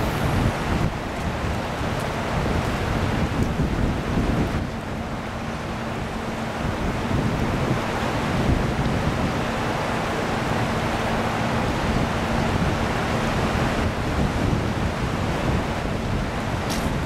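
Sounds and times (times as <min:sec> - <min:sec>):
water noise: 0:00.0 - 0:17.0
wind rushing over microphone: 0:00.0 - 0:17.0.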